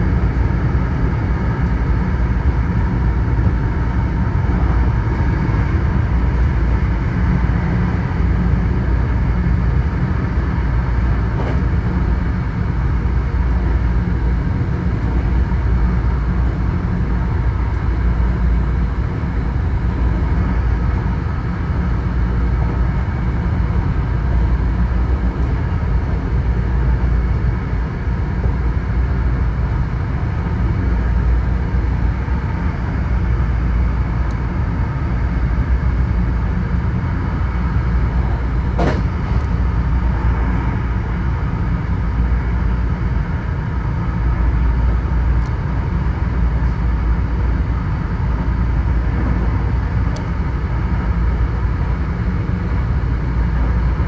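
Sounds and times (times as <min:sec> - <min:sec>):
faint steady train whine: 0:00.0 - 0:54.0
train wheels rumbling on rail: 0:00.0 - 0:54.0.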